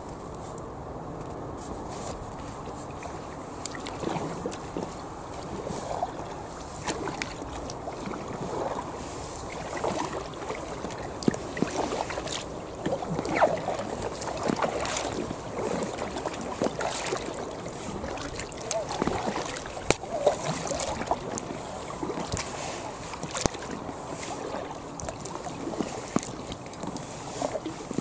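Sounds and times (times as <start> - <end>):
kayak paddles in water: 0.0 - 28.0
wind rumble on microphone: 0.0 - 28.0.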